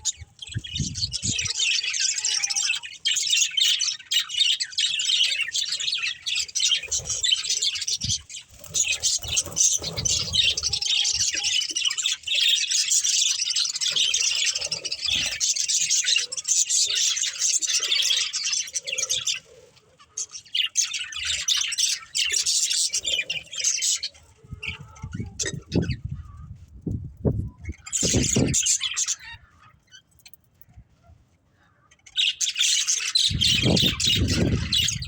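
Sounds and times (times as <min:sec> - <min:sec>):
budgerigars chirping and chattering: 0:00.0 - 0:26.6, 0:27.5 - 0:30.8, 0:31.8 - 0:35.0.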